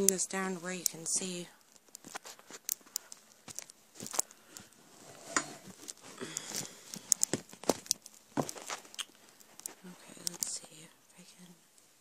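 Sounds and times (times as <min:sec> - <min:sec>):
clothing rustling against camera: 0:00.0 - 0:10.8.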